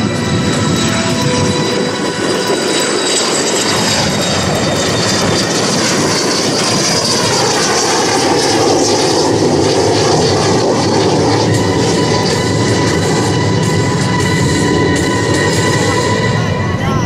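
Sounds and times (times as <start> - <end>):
jet engine flyby: 0.0 - 17.0.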